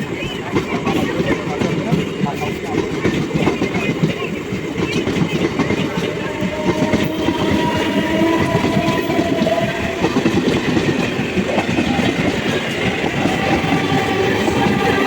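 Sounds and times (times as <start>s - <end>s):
train rumble with wheel clatter: 0.0s - 15.0s.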